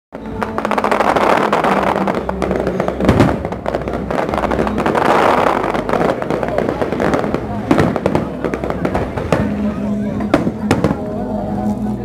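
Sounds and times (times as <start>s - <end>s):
fireworks crackling: 0.2s - 12.0s
firework boom: 0.9s - 11.1s.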